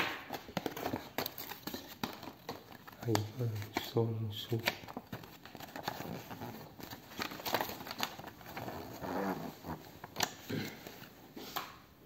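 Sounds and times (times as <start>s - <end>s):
paper rustling and crackling: 0.0s - 11.2s.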